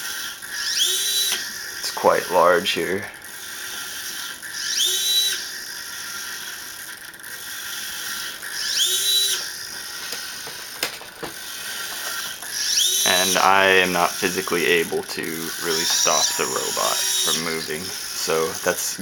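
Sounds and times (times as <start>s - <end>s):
servo motors whining: 0.0s - 19.0s.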